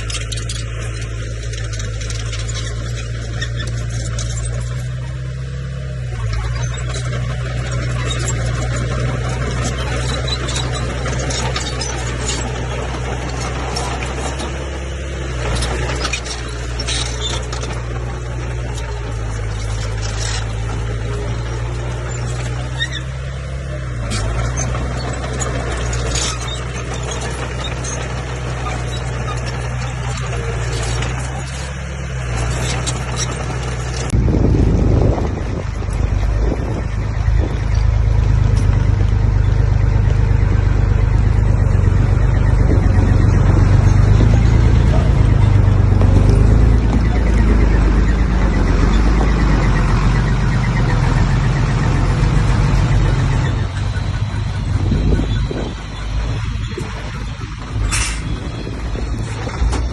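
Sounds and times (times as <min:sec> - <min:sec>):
diesel engine drone: 0:00.0 - 0:59.9
engine rattle: 0:00.0 - 0:59.9.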